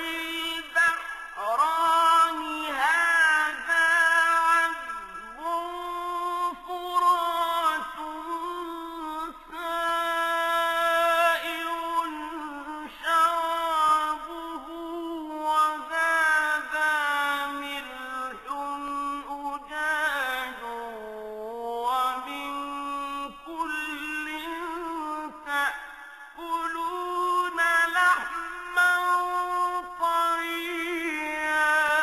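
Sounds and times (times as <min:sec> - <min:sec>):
person chanting recitation: 0:00.0 - 0:32.0.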